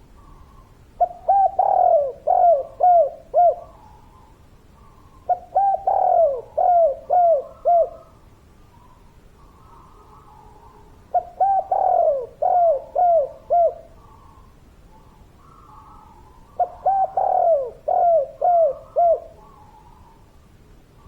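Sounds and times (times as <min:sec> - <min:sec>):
dove cooing: 0:00.0 - 0:20.3
faint high bird calls: 0:00.0 - 0:21.0.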